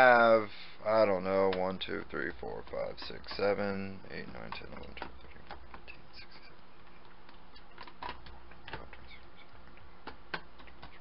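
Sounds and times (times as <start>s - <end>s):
low steady hum: 0.0s - 11.0s
fingertips tapping hard drive cases: 1.1s - 11.0s.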